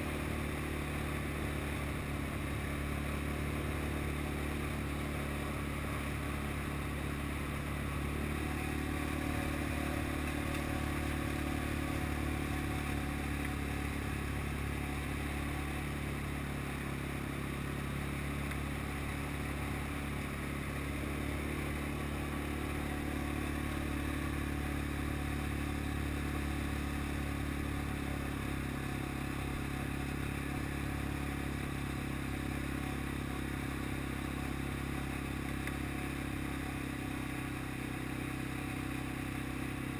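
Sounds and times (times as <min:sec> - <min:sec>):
tires on gravel road: 0:00.0 - 0:39.9
vehicle engine running: 0:00.0 - 0:39.9.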